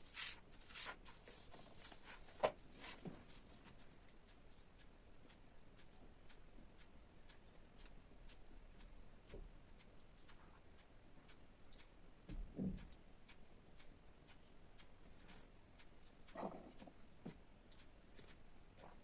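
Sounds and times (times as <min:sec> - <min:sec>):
faint ticking: 0:02.7 - 0:19.0.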